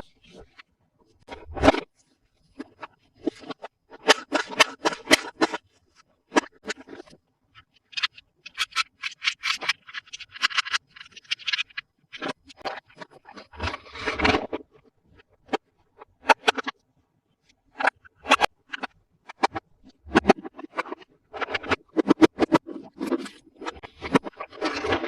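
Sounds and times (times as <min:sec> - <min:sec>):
plastic toy pieces scratching and clicking: 0:02.5 - 0:16.8, 0:17.8 - 0:25.0.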